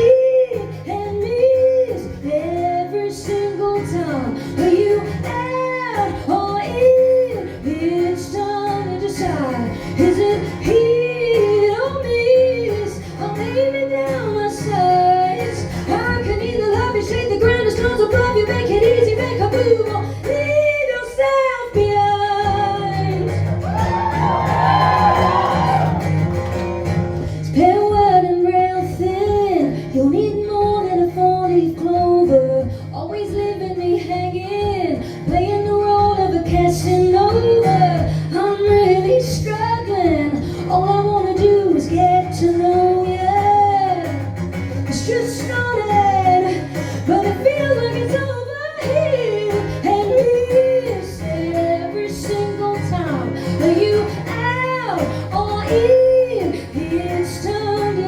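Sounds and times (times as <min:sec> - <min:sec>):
woman singing: 0:00.0 - 0:26.3, 0:27.2 - 0:58.0.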